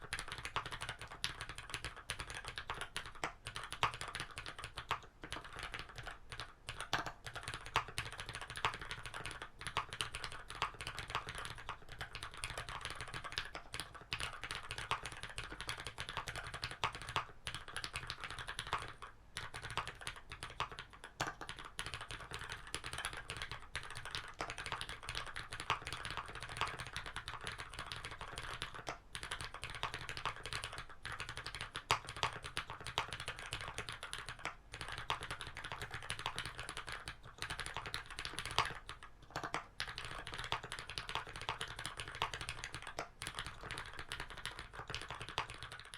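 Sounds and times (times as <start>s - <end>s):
fast mechanical keyboard typing: 0.0s - 45.9s.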